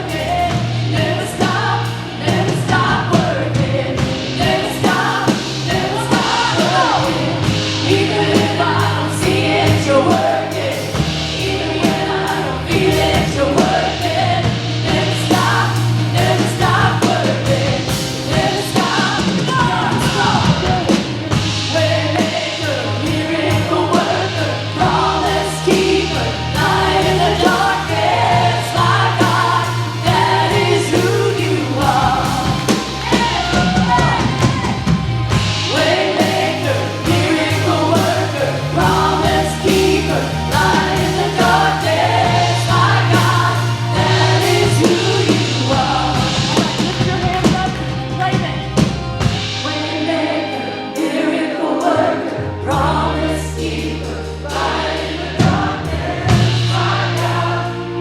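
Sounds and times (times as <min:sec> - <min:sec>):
drums: 0:00.0 - 0:58.0
sustained bass notes: 0:00.0 - 0:58.0
voices singing: 0:00.0 - 0:58.0.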